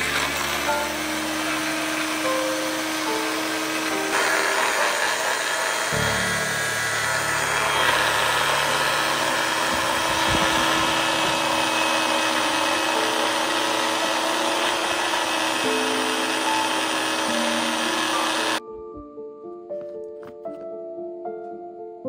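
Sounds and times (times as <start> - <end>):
blender grinding nuts: 0.0 - 18.6.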